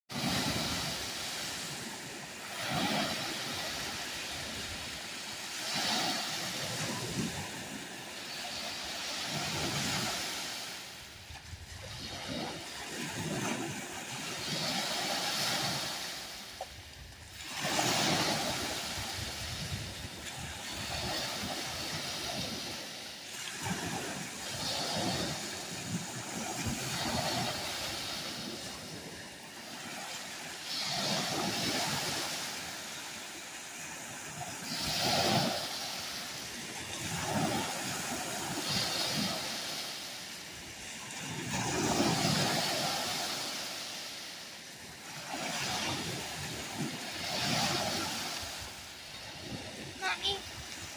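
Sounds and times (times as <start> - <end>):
waves breaking on beach: 0.1 - 50.9.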